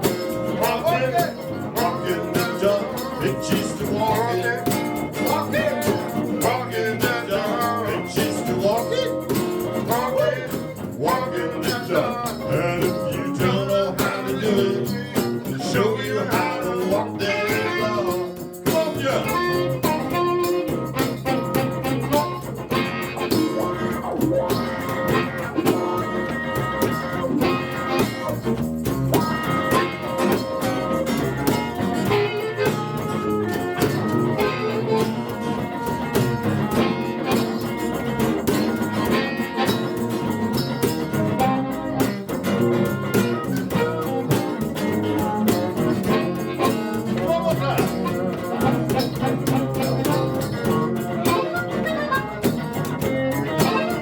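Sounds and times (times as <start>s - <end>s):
blues band playing: 0.0s - 54.0s
guitar: 0.0s - 54.0s.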